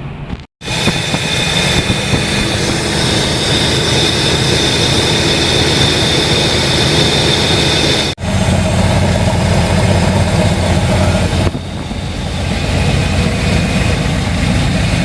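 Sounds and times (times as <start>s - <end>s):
machine whining and rushing: 0.6s - 15.0s.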